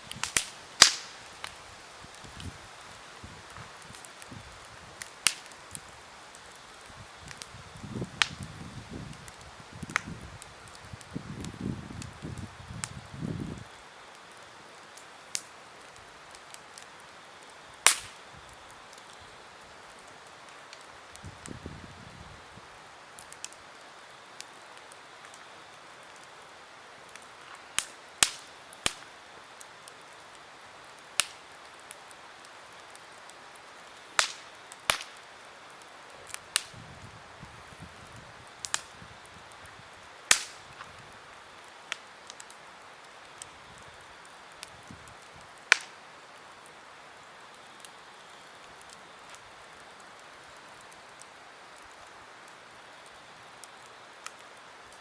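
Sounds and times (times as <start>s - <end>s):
burning wood popping: 0.0s - 55.0s
campfire crackling: 0.0s - 55.0s
fire hissing: 0.0s - 55.0s.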